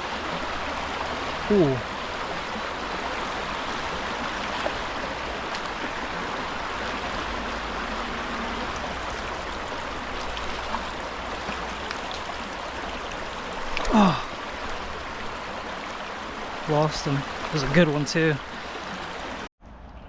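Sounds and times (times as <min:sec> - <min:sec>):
creek water rushing: 0:00.0 - 0:19.5.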